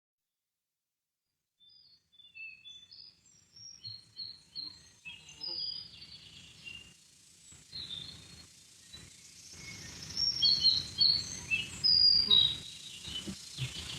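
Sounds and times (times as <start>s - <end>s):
songbirds chirping: 1.6s - 13.9s.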